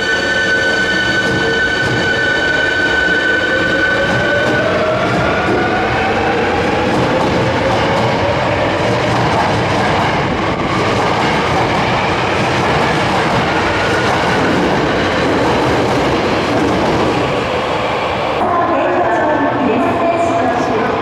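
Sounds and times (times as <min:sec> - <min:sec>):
subway train rumble: 0:00.0 - 0:21.0.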